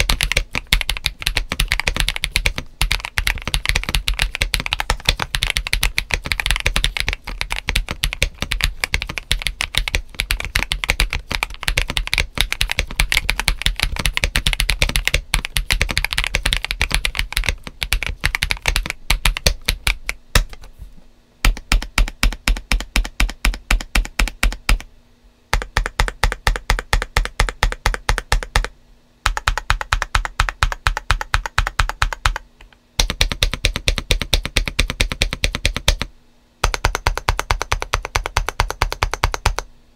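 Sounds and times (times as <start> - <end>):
mechanical keyboard typing: 0.0 - 20.7, 21.4 - 24.9, 25.5 - 39.7.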